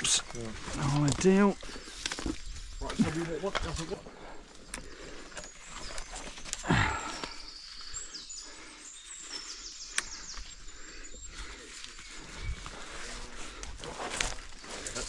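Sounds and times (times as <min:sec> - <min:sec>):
dry twigs rustling and crackling: 0:00.0 - 0:15.0
songbird trill: 0:00.0 - 0:15.0.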